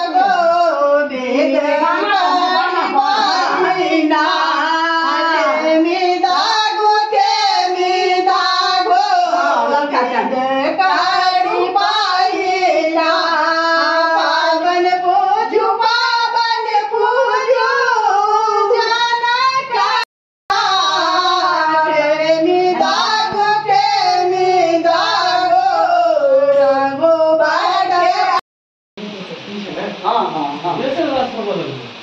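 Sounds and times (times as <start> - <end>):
women singing: 0.0 - 28.4.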